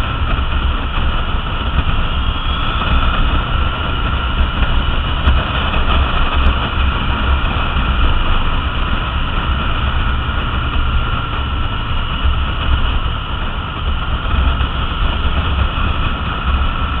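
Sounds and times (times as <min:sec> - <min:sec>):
motorcycle engine cruising: 0:00.0 - 0:17.0
road noise: 0:00.0 - 0:17.0
wind buffeting microphone: 0:00.0 - 0:17.0.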